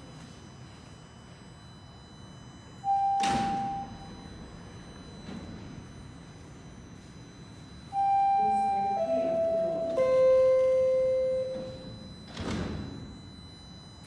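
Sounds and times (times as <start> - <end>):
descending three-tone door chime: 0.0 - 14.0.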